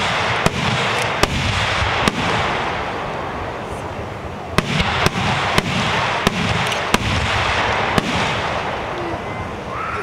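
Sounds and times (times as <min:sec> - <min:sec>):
fireworks bangs: 0:00.0 - 0:10.0
steady dense noise: 0:00.0 - 0:10.0.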